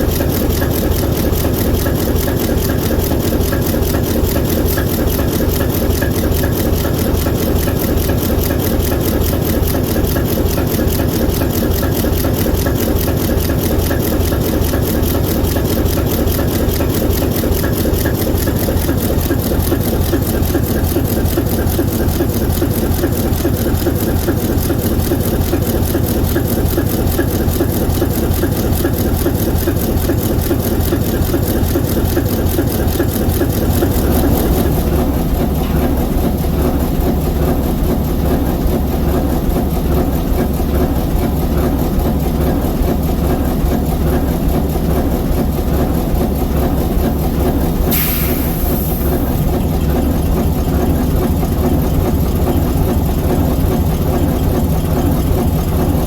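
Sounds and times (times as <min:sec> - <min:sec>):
locomotive diesel engine running: 0:00.0 - 0:56.0.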